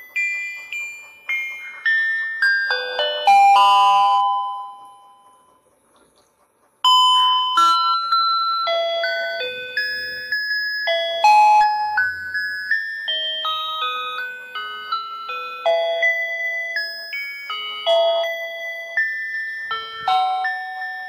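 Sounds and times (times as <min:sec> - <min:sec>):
bright chime: 0:00.0 - 0:05.5, 0:06.9 - 0:21.0
tinkly electronic bell melody: 0:00.0 - 0:05.6, 0:06.8 - 0:21.0.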